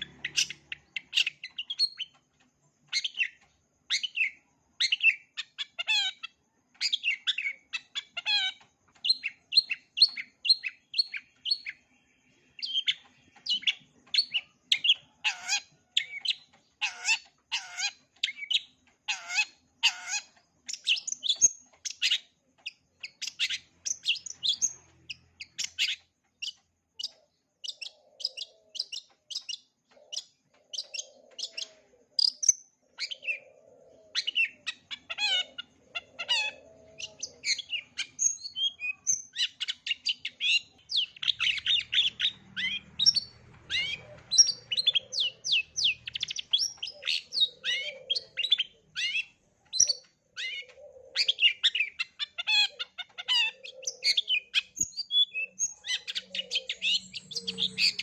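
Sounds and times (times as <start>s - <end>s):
bird singing chirps and trills: 0.0s - 58.0s.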